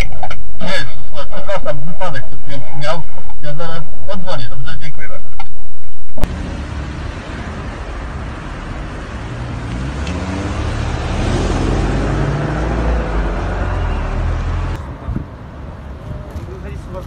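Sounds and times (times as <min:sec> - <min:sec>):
motorway traffic rumble: 0:00.0 - 0:17.0.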